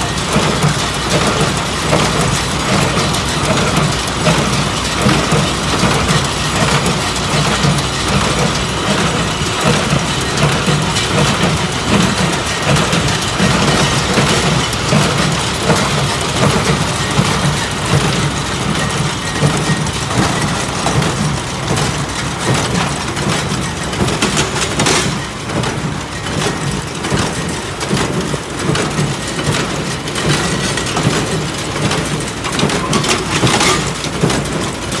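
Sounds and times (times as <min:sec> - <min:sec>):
baler and tractor engine drone: 0:00.0 - 0:35.0.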